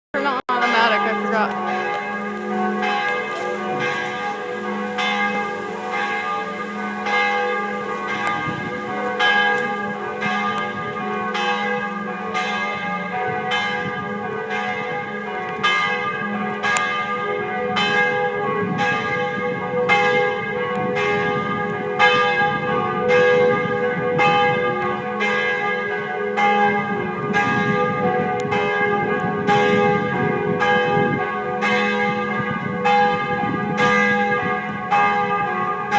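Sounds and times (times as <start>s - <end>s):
church bells ringing: 0.2s - 35.9s.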